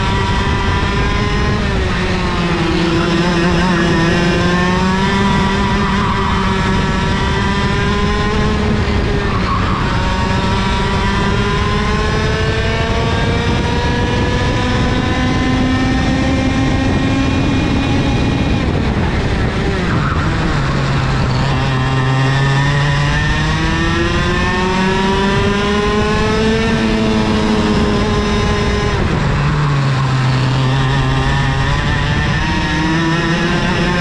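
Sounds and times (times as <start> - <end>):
kart engine racing: 0.0 - 34.0.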